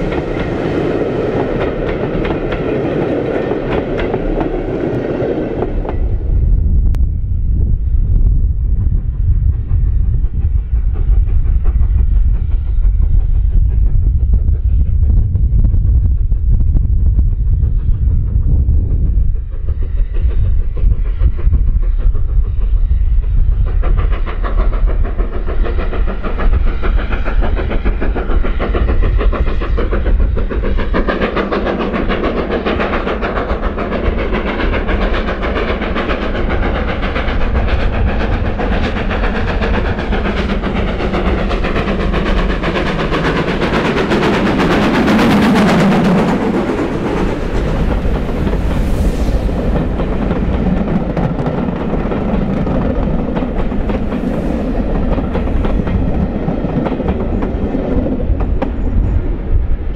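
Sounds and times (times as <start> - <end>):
steam train passing: 0.0 - 59.9.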